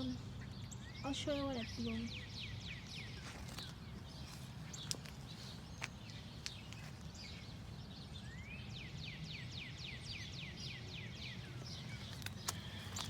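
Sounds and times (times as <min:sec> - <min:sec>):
songbird singing whistled notes: 0:00.0 - 0:13.0.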